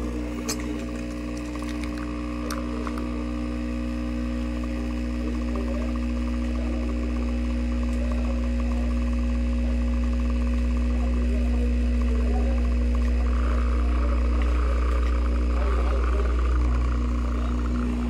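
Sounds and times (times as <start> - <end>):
espresso running into cup: 0.0 - 9.2, 10.0 - 18.0
espresso machine pump humming: 0.0 - 18.0.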